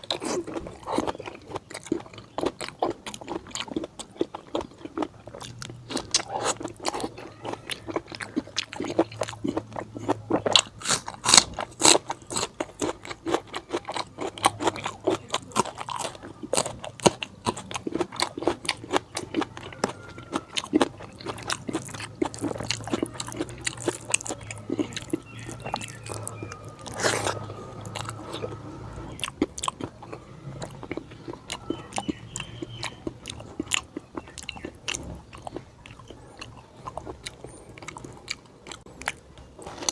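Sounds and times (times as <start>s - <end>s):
chewing and crunching food: 0.0s - 39.9s
faint low hum: 0.0s - 39.9s.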